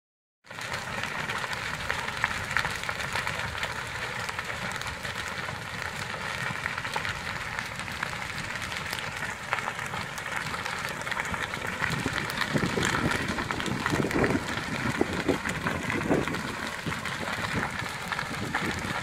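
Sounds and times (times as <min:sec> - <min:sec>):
fire crackling: 0:00.4 - 0:19.0
fire popping: 0:00.4 - 0:19.0.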